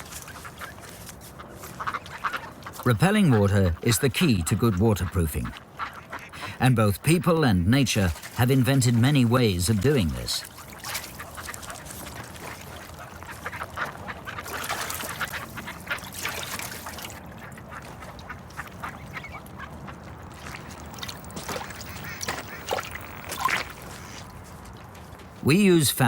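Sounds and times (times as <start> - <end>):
ducks quacking: 0.0 - 24.3.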